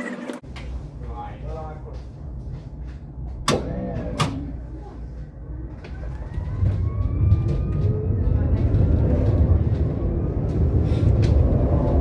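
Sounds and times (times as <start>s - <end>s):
tram low rumble: 0.4s - 12.0s.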